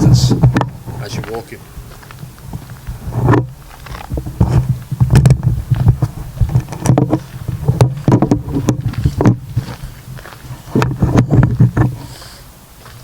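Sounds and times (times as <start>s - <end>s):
footsteps on woodland path: 0.0s - 13.0s
microphone handling noise: 0.0s - 13.0s
wind rumble on microphone: 0.0s - 13.0s.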